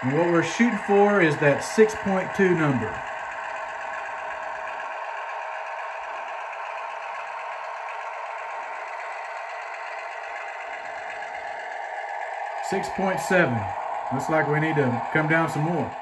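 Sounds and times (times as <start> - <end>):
thin diesel engine sound from speaker: 0.0 - 16.0.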